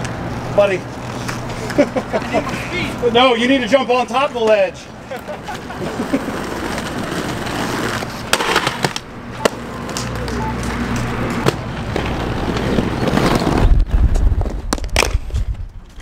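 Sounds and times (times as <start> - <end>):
skate wheels rolling on concrete: 0.0 - 16.0.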